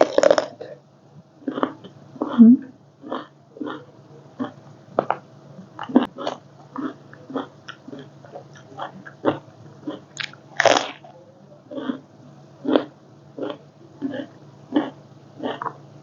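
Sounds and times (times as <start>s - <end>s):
person chewing crunchy food: 0.0s - 0.8s, 1.4s - 2.4s, 3.0s - 11.1s, 11.7s - 12.0s, 12.6s - 15.8s.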